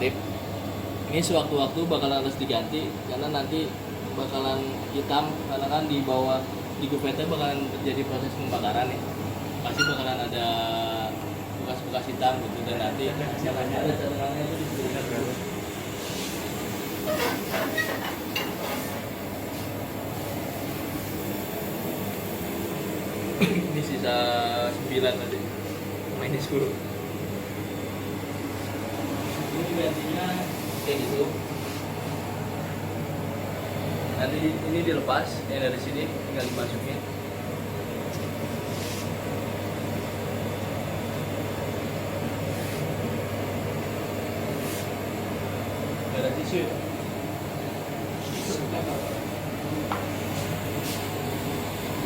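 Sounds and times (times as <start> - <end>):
fan and air hum: 0.0 - 52.0.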